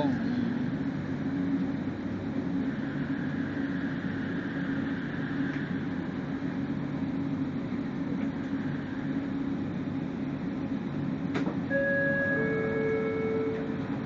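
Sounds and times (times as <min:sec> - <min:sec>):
light rail car hum: 0:00.0 - 0:14.0
wheel and rail noise: 0:00.0 - 0:14.0.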